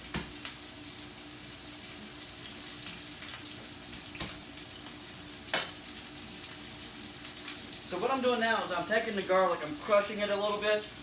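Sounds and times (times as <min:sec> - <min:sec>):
steak sizzling in a skillet: 0:00.0 - 0:11.0.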